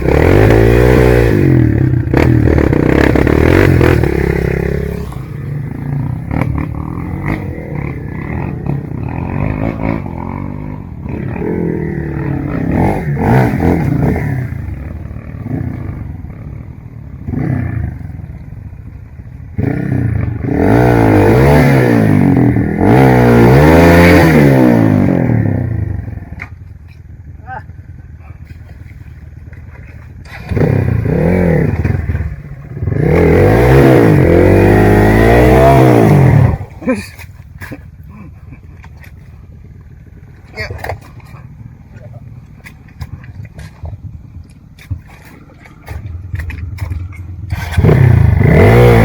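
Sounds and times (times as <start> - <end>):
motorcycle engine revving: 0.0 - 38.2, 38.9 - 49.0.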